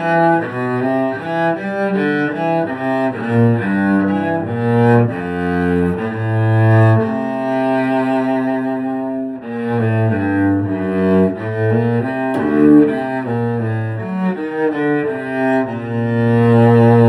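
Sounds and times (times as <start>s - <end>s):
bowed cello melody: 0.0s - 17.0s.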